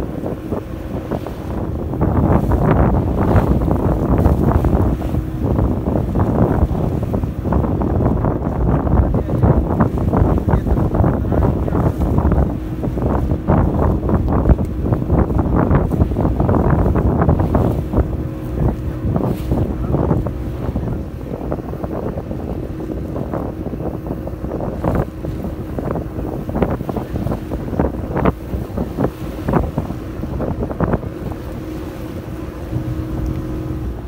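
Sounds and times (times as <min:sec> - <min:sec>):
boat engine drone: 0:00.0 - 0:34.0
water splashes: 0:00.0 - 0:34.0
wind buffeting microphone: 0:00.0 - 0:34.0.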